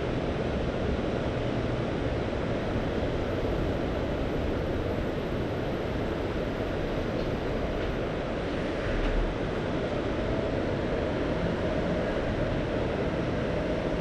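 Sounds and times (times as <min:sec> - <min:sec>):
low rumbling sea wash: 0:00.0 - 0:14.0.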